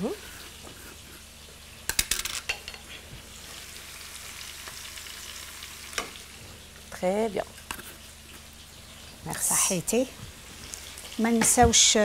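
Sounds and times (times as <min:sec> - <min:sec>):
chicken frying in oil: 0:00.0 - 0:12.0.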